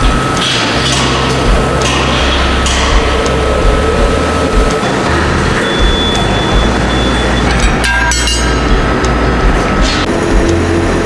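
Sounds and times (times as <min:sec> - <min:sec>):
low machinery drone: 0:00.0 - 0:11.0
machinery clatter: 0:00.0 - 0:11.0
thin steady whine: 0:00.0 - 0:11.0.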